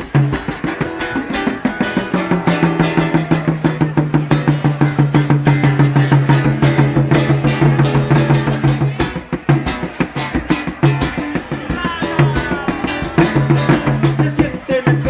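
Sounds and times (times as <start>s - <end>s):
acoustic guitar: 0.0s - 15.0s
hand percussion beat: 0.0s - 15.0s.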